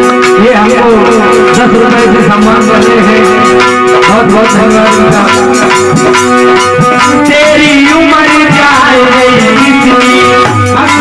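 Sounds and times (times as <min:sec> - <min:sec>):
held melody notes: 0:00.0 - 0:11.0
steady drum rhythm: 0:00.0 - 0:11.0.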